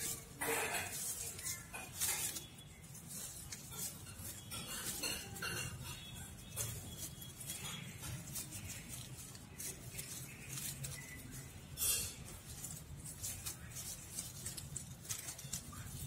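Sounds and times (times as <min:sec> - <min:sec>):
leaves rustling: 0:00.0 - 0:16.0.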